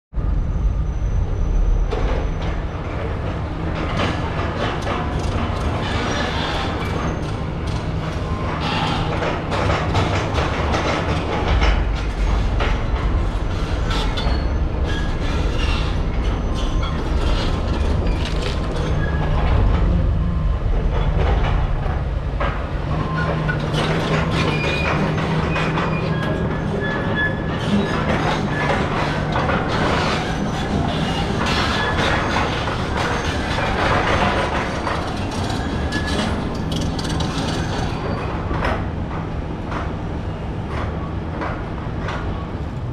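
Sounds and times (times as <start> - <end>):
diesel machinery engine drone: 0.2 - 37.2.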